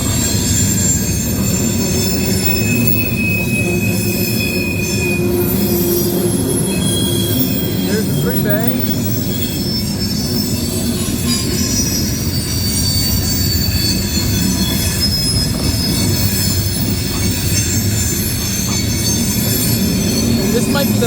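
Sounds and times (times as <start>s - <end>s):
train wheels rumbling on rails: 0.0s - 21.0s
wheel flange squeal: 0.0s - 21.0s.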